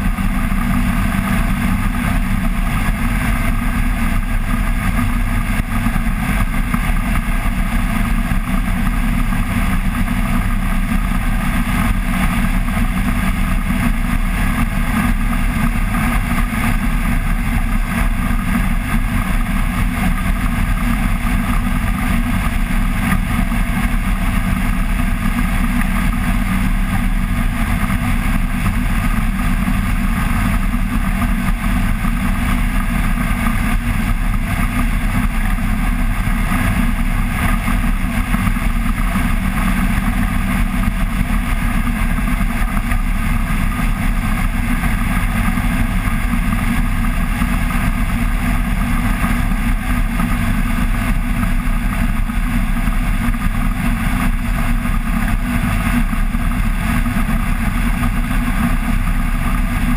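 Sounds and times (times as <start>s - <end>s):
light aircraft engine and propeller: 0.0s - 59.9s.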